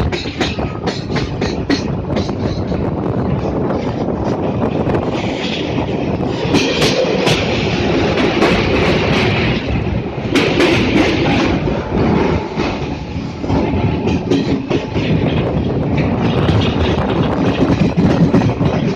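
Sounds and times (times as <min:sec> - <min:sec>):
train rumbling on track: 0:00.0 - 0:18.9
wheels clicking over rails: 0:00.0 - 0:18.9.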